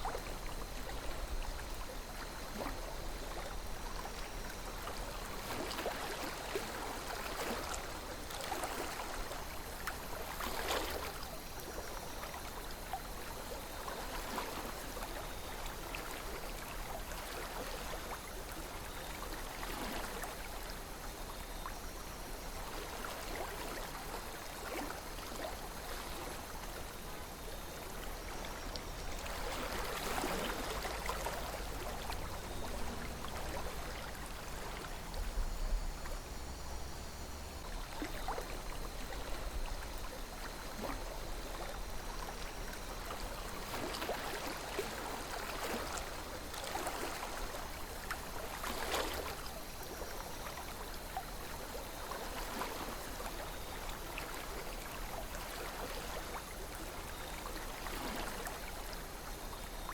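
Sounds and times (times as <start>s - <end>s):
river water gurgling over stones: 0.0s - 59.9s.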